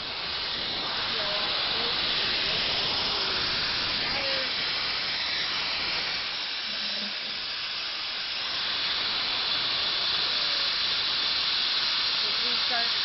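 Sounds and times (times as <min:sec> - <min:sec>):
steady gas hiss: 0:00.0 - 0:13.0.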